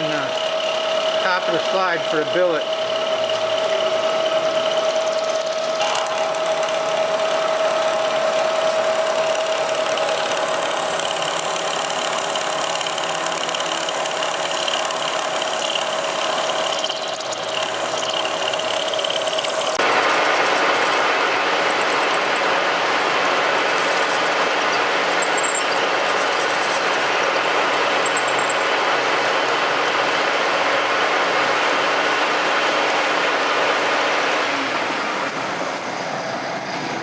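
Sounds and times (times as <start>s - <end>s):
milling machine cutting metal: 0.0s - 36.3s.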